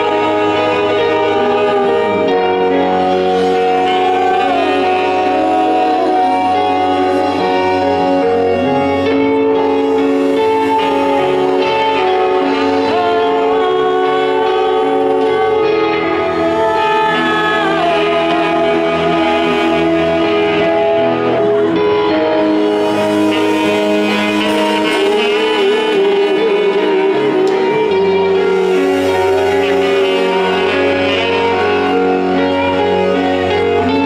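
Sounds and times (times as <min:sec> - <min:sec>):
live rock band playing: 0:00.0 - 0:34.0
saxophone melody: 0:00.0 - 0:34.0.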